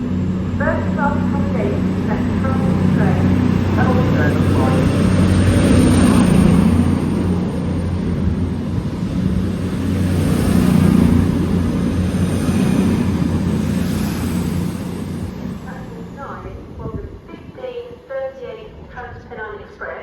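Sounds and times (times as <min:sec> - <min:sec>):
train engine droning: 0:00.0 - 0:20.0.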